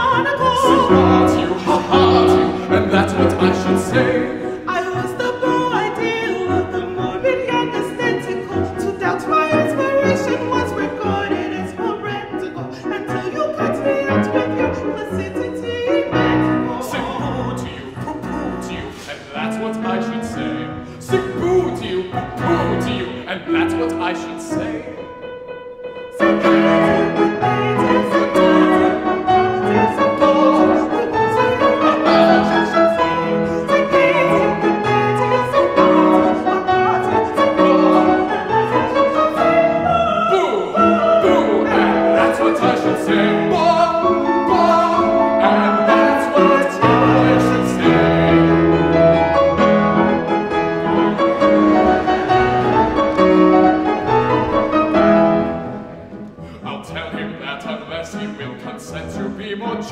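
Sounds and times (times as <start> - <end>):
man and woman singing opera duet: 0.0 - 25.0, 26.1 - 59.9
grand piano accompaniment: 0.0 - 59.9.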